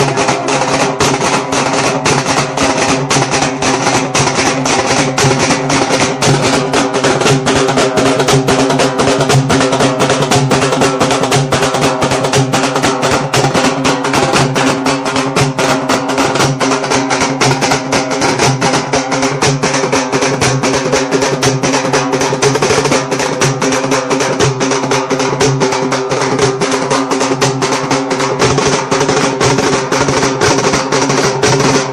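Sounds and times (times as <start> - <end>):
fast steady drumbeat: 0.0 - 31.9.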